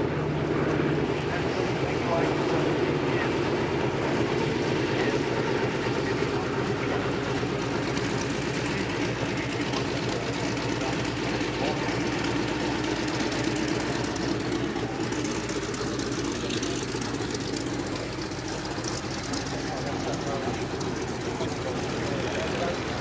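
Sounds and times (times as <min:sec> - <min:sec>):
piston aircraft engine droning: 0:00.0 - 0:23.0.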